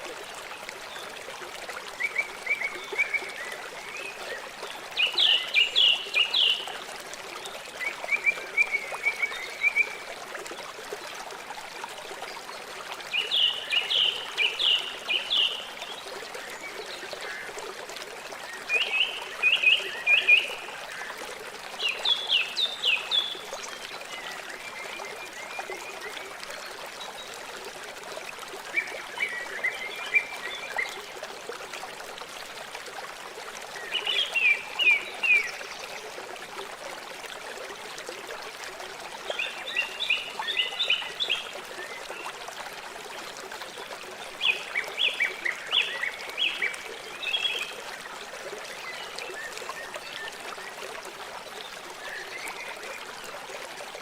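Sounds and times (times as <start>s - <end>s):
river water running: 0.0s - 54.0s.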